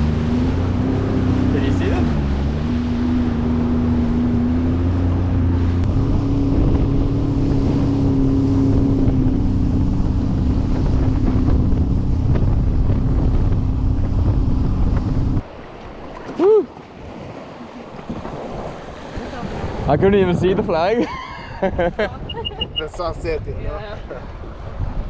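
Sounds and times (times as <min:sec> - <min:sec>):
jet ski engine running: 0:00.0 - 0:25.0
wind buffeting microphone: 0:00.0 - 0:25.0.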